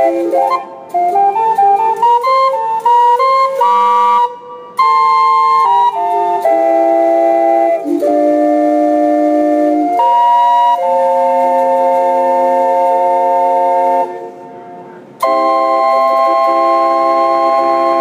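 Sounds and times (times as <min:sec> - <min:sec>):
steam calliope playing chords: 0:00.0 - 0:18.0.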